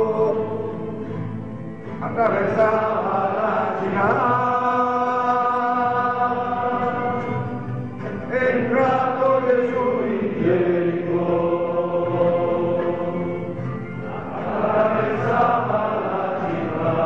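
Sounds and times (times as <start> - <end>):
slow liturgical chant: 0.0 - 17.0.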